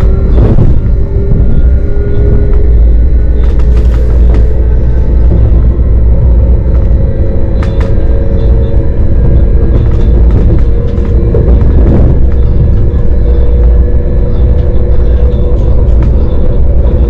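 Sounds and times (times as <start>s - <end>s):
steady hum: 0.0s - 17.0s
train rumbling: 0.0s - 17.0s.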